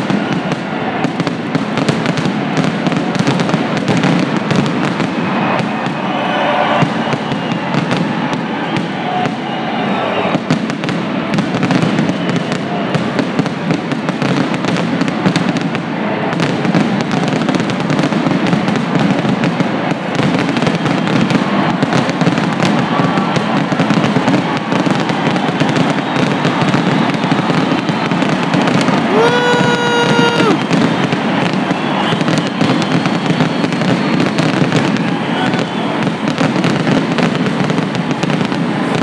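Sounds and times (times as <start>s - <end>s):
fireworks bangs and crackle: 0.0s - 39.0s.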